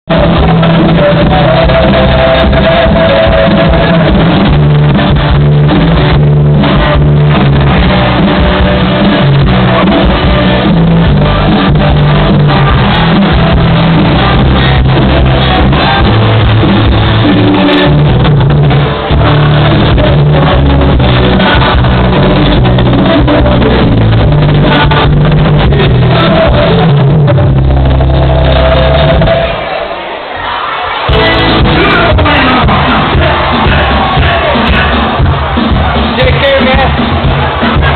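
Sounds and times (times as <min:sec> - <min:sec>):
loud party music with heavy bass: 0:00.0 - 0:37.9.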